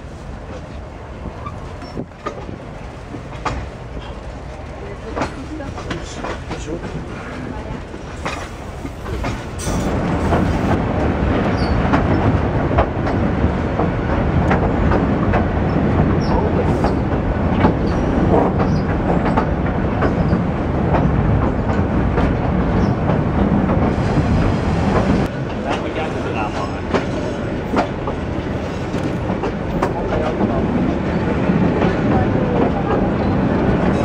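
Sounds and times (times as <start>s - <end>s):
train clicks and clatter: 0.0s - 34.0s
train wheels rumbling on rails: 0.0s - 34.0s.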